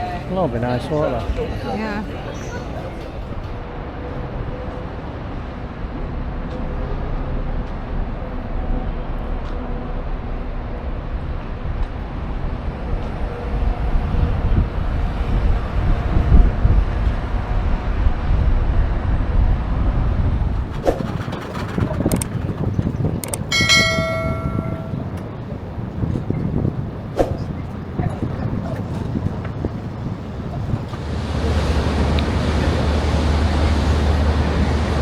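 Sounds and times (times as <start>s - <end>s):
low rumble of street traffic: 0.0s - 35.0s.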